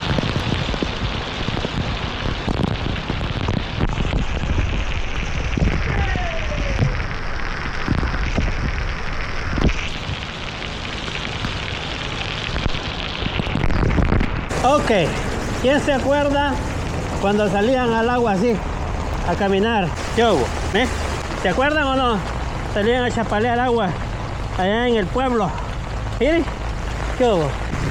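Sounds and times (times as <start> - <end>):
heavy rain pouring: 0.0 - 27.9.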